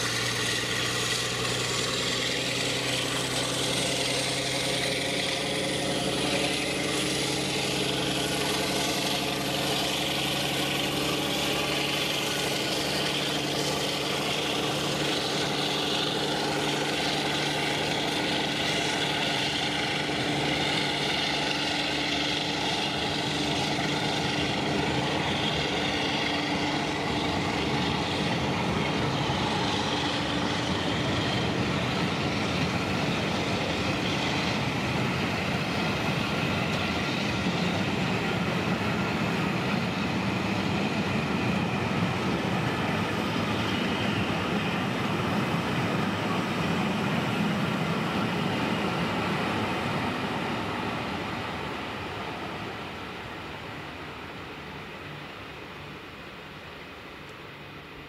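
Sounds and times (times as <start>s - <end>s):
diesel locomotive engine running: 0.0s - 58.0s
train coaches rolling past: 0.0s - 58.0s.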